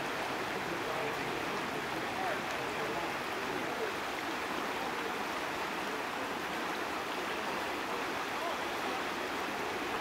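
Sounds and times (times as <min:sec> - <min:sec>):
shallow river current flowing: 0:00.0 - 0:10.0.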